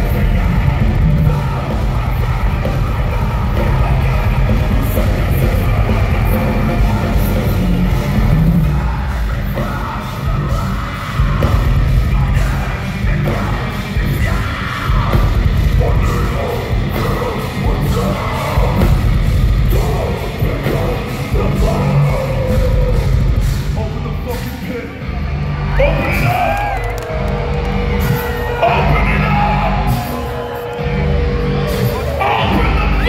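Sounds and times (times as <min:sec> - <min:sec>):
heavy metal band playing live: 0:00.0 - 0:33.0
singer singing and yelling: 0:00.0 - 0:33.0.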